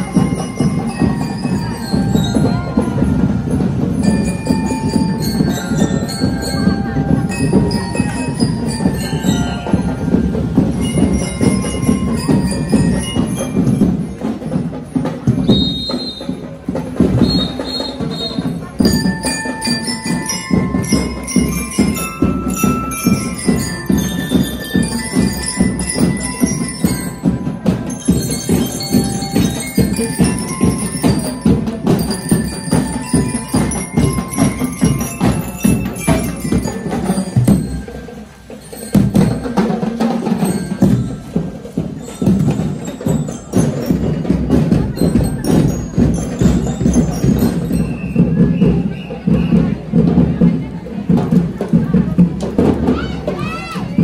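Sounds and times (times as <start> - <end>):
bell lyres playing melody: 0.0 - 54.0
marching drum beat: 0.0 - 54.0.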